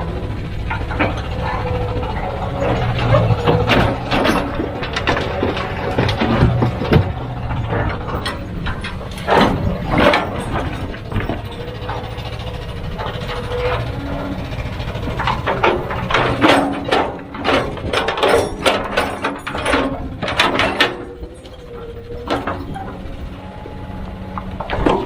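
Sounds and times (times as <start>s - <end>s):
diesel engine running: 0.0s - 25.0s
metal and rock clanking: 0.0s - 25.0s.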